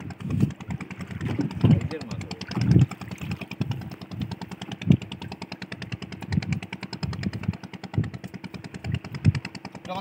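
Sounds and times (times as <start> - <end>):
irregular low thumps: 0.0 - 9.9
engine running with rapid knock: 0.0 - 10.0.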